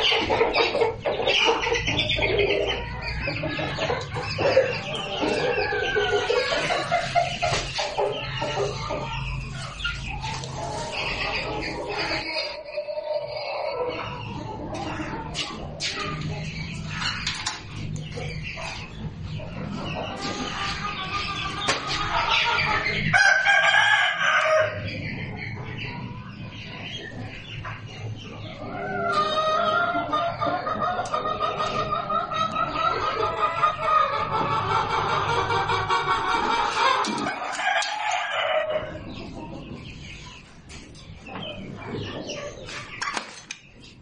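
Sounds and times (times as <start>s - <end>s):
birds calling: 0.0s - 44.0s.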